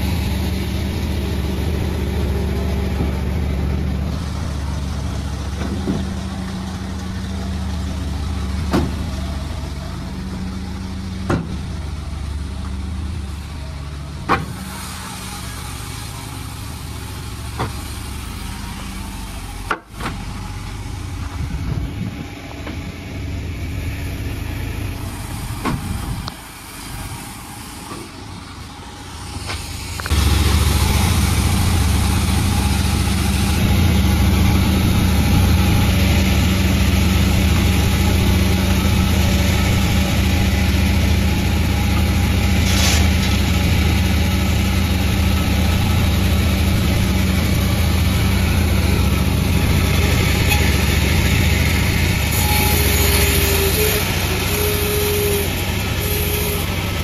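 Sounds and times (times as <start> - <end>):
sawmill machine low drone: 0.0 - 57.0.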